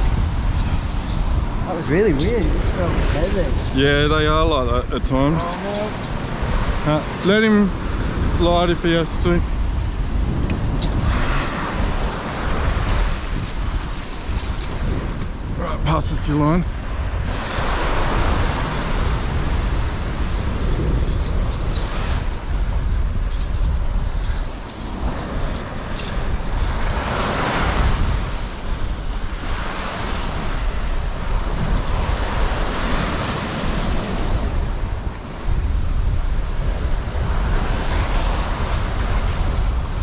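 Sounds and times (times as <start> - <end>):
sea waves washing ashore: 0.0 - 40.0
wind buffeting microphone: 0.0 - 40.0.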